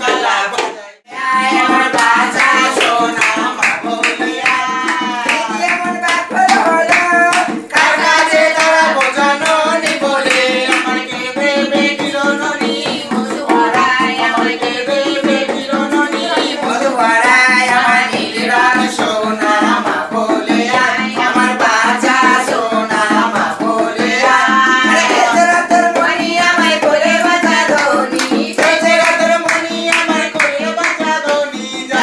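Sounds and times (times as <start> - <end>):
barrel hand drum beating: 0.0 - 32.0.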